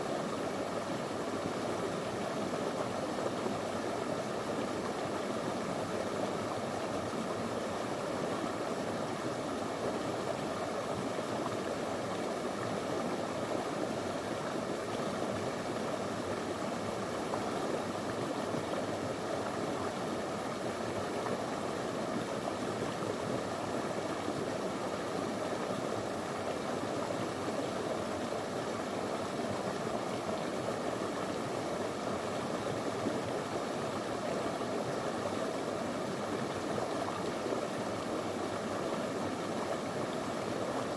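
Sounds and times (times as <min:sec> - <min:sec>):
river flowing over stones: 0:00.1 - 0:40.9.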